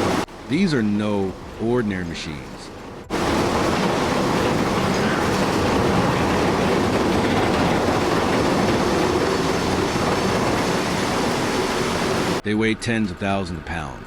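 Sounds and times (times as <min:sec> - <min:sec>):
heavy machinery rumbling: 0:00.0 - 0:12.4.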